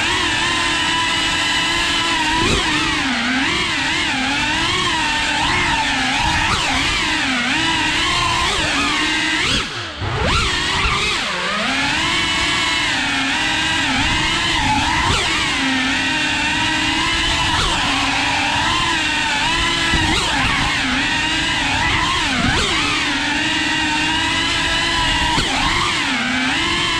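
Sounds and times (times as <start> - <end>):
drone propellers whining: 0.0 - 26.9.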